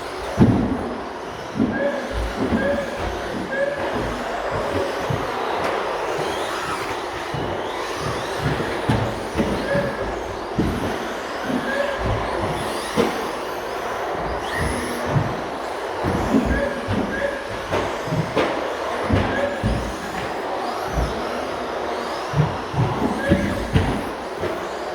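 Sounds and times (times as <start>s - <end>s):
rc truck motors whining: 0.0s - 24.9s.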